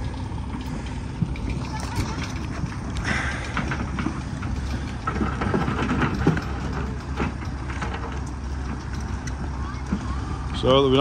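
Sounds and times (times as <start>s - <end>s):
knocks and clanks: 0.0s - 10.3s
diesel engine running: 0.0s - 11.0s.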